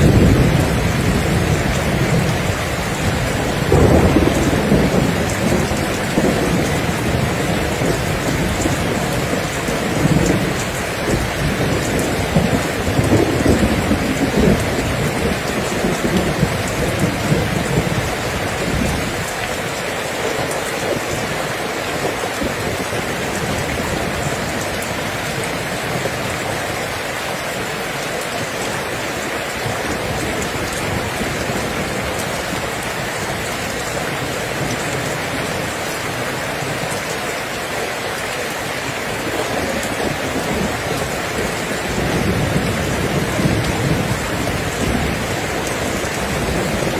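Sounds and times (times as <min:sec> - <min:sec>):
steady rain: 0:00.0 - 0:46.9
thunder rumbling: 0:00.0 - 0:46.9.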